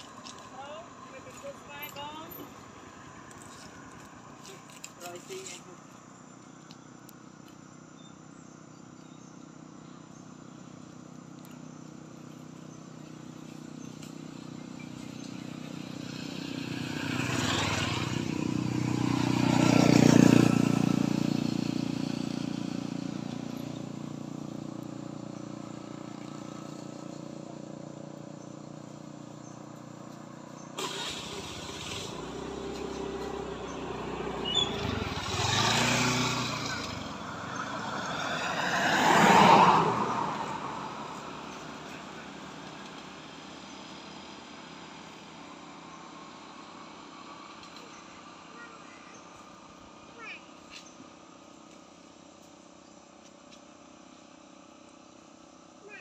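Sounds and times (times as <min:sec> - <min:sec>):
vehicles passing on road: 0:00.0 - 0:56.0.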